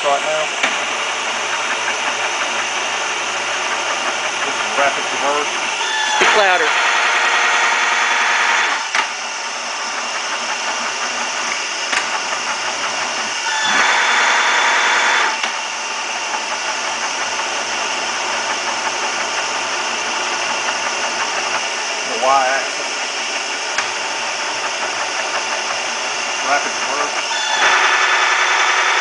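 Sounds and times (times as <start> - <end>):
high machine whine: 0.0 - 29.0
milling machine gear drone: 0.0 - 29.0.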